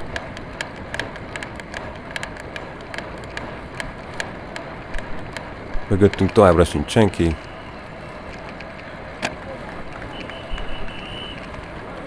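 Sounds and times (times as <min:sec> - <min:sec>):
bicycle clicks and rattles: 0:00.0 - 0:12.0
wind and road noise: 0:00.0 - 0:12.0.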